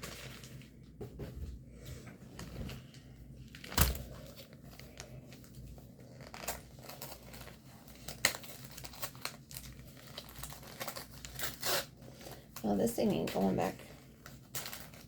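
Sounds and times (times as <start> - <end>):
packaging crinkling and tearing: 0.0 - 0.7, 2.4 - 15.0.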